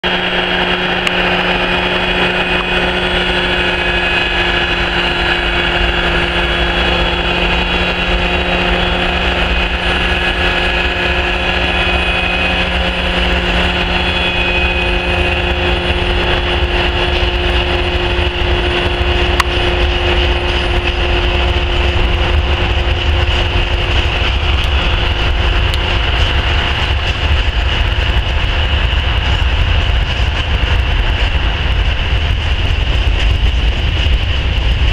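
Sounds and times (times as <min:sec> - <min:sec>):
diesel locomotive engine drone: 0:00.0 - 0:34.9
train wheels rumbling: 0:00.0 - 0:34.9.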